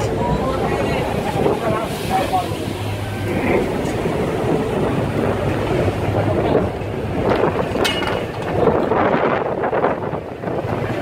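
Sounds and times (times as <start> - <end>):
boat engine running: 0.0 - 11.0
wind buffeting microphone: 0.0 - 11.0.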